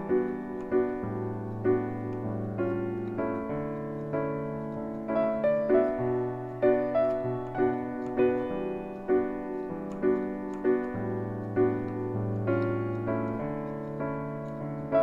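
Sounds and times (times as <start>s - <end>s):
slow bossa nova piano: 0.0s - 15.0s.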